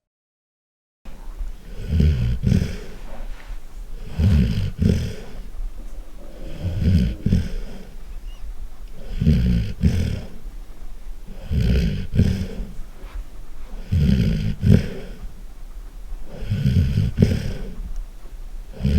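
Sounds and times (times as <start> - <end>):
dog snoring loudly: 1.5 - 18.9.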